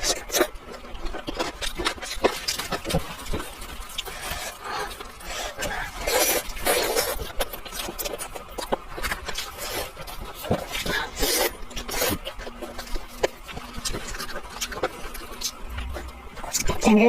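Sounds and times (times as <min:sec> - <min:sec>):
smacking and chewing: 0:00.0 - 0:16.9.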